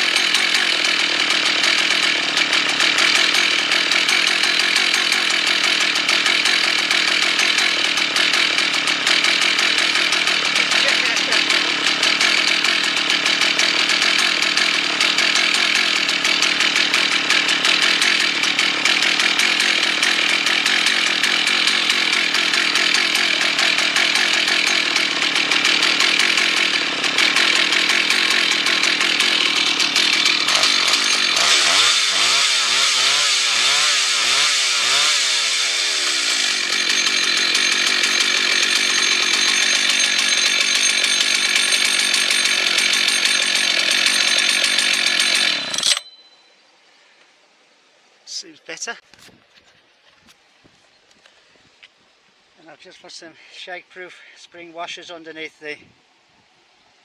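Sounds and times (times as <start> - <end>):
two-stroke chainsaw running: 0.0 - 46.1.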